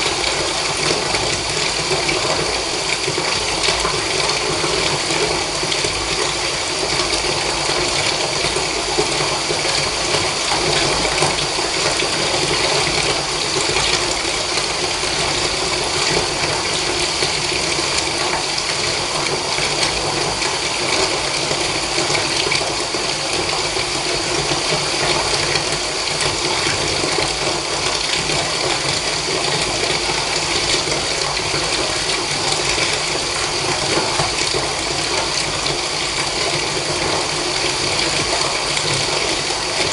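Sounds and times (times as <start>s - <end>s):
tap water running into bath: 0.0s - 39.9s.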